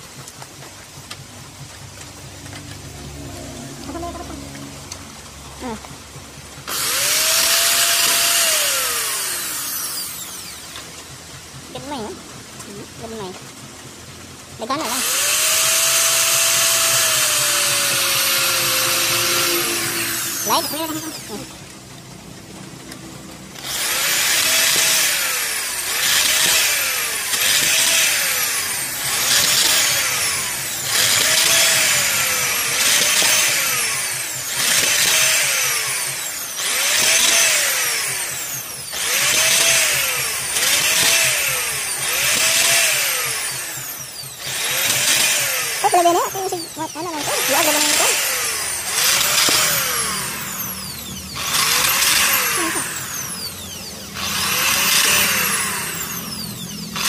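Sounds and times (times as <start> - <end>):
electric drill motor pulsing: 0.0 - 57.0.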